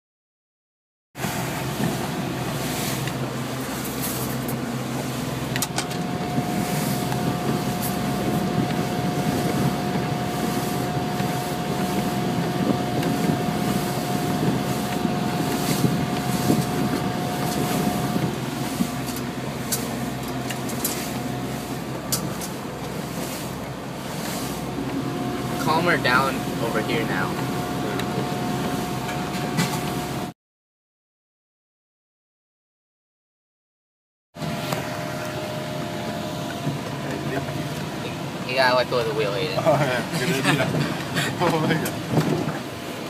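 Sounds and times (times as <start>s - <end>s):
boat engine droning: 1.2s - 30.3s, 34.4s - 43.0s
thin steady whine: 1.2s - 30.3s, 34.4s - 43.0s
water noise: 1.2s - 30.3s, 34.4s - 43.0s
wind: 1.2s - 30.4s, 34.4s - 43.0s.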